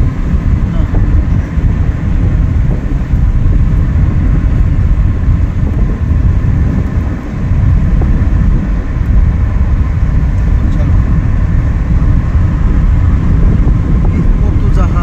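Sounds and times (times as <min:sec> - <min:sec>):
vehicle road noise: 0:00.0 - 0:15.0
wind buffeting microphone: 0:00.0 - 0:15.0.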